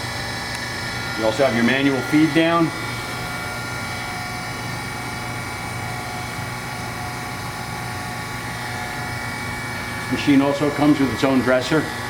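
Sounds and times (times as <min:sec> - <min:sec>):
surface grinder humming: 0:00.0 - 0:12.0.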